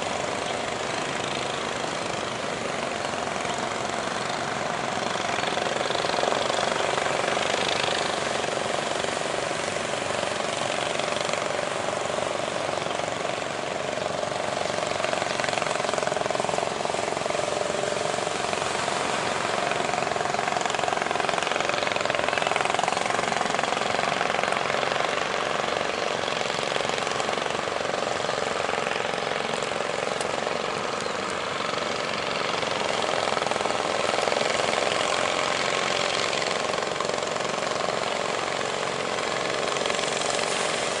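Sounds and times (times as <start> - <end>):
boat engine chattering: 0.0 - 41.0
wind: 0.0 - 41.0.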